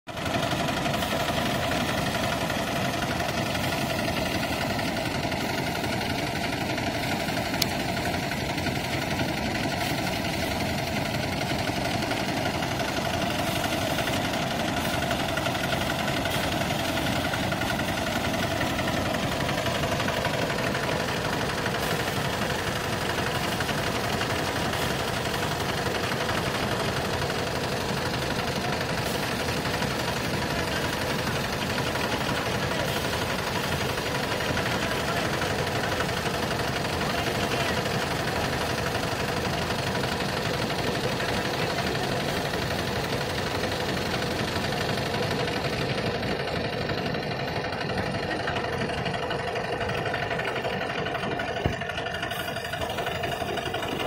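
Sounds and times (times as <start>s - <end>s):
spinning drum rattle: 0.1s - 54.0s
thresher engine drone: 0.1s - 54.0s.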